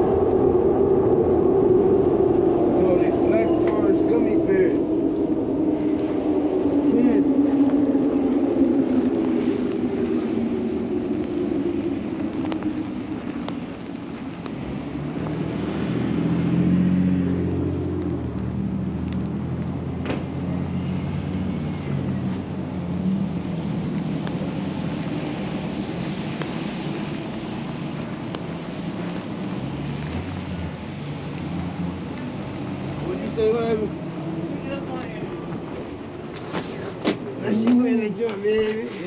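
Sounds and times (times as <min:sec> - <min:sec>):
vehicle engine hum: 0:00.0 - 0:39.0.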